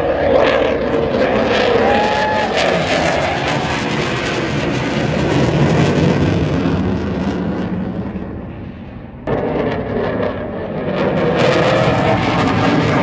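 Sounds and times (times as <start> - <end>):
jet aircraft flying overhead: 0.0 - 13.0.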